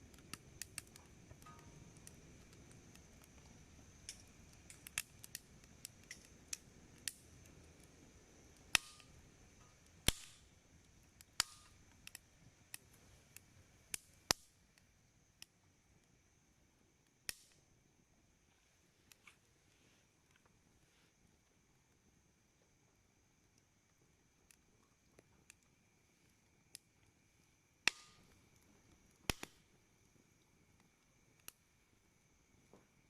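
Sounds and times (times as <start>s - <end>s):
wood fire crackling and popping: 0.0s - 20.6s, 21.4s - 33.0s.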